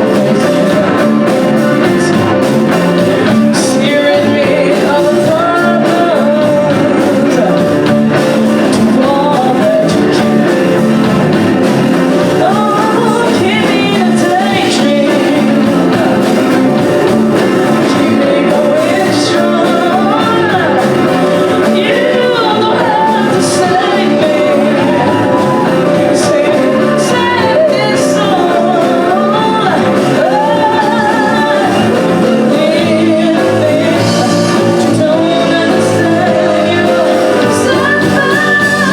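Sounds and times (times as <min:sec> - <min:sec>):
lead singer singing: 0:00.0 - 0:38.9
live band playing soul-rock: 0:00.0 - 0:38.9.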